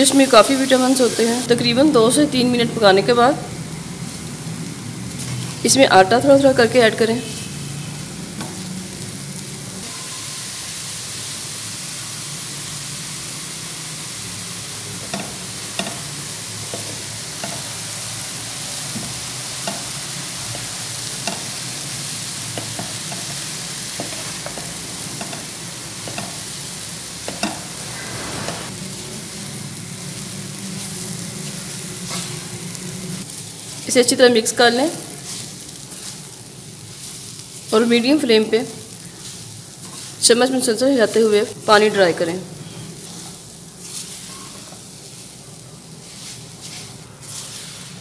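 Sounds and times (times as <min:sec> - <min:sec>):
radish sizzling in a pan: 0:00.0 - 0:48.0.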